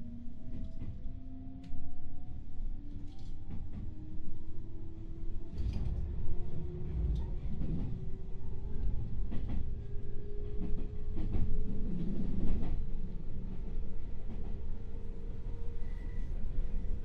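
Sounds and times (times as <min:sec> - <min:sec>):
train interior low rumble: 0:00.0 - 0:17.0.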